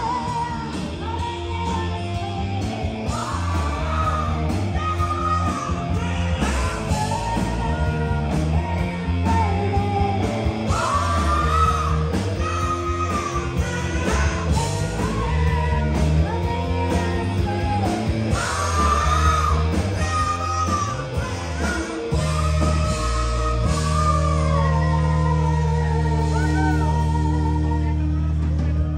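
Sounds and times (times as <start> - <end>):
bass: 0.0 - 28.9
drums: 0.0 - 28.9
electric guitars: 0.0 - 28.9
person singing: 0.0 - 28.9.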